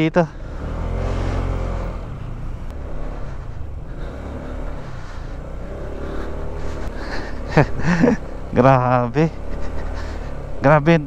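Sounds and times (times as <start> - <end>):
scooter engine running: 0.4 - 11.0.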